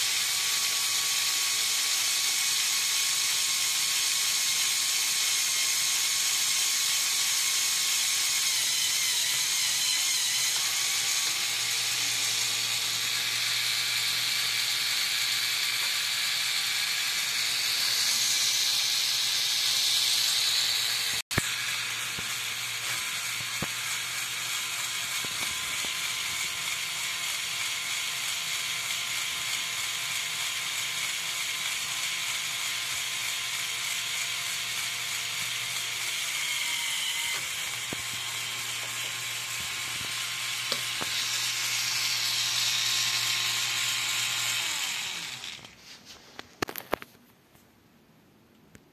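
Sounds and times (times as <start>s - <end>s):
small electric motor whirring: 0.0s - 46.0s.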